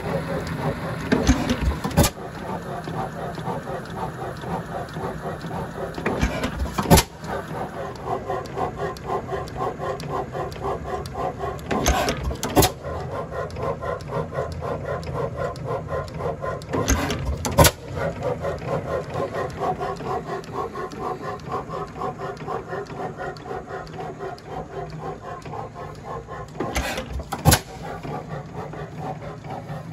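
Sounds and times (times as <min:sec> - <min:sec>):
engine valve gear clattering: 0:00.3 - 0:29.8.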